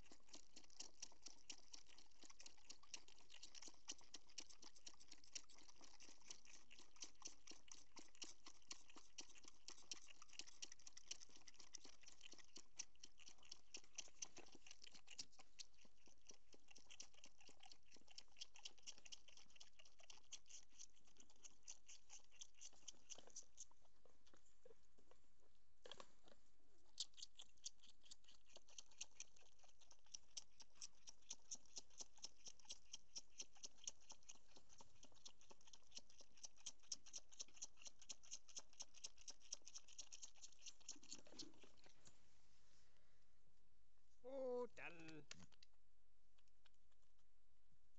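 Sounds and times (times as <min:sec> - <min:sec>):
goat kids sucking on bottles: 0:00.0 - 0:42.2.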